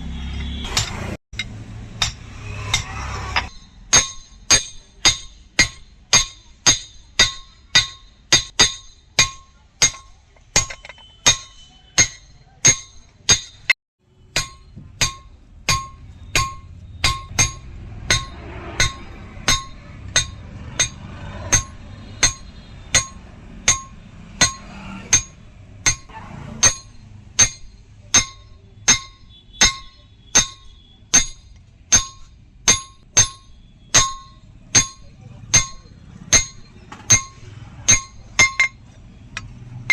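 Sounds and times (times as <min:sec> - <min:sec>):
hammer ringing on anvil: 0:00.7 - 0:38.8.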